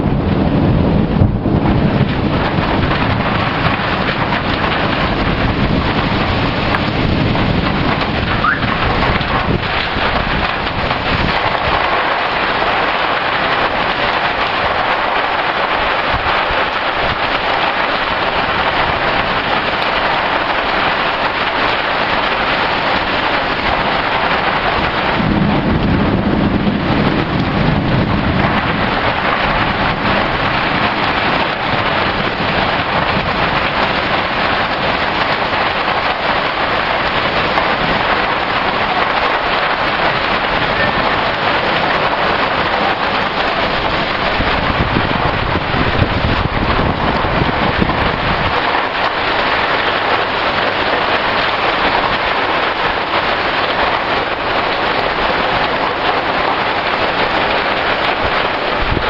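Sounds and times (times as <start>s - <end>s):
heavy rain pouring: 0.0s - 59.0s
thunder rumbling: 0.0s - 59.0s.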